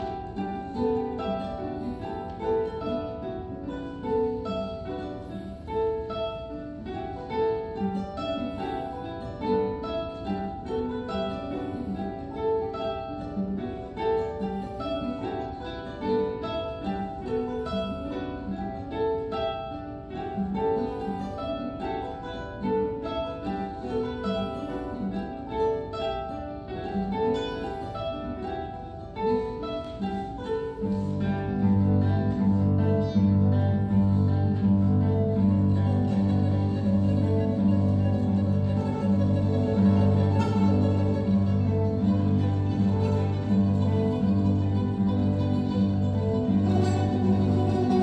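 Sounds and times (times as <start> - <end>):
classical guitars plucking: 0.0 - 48.0.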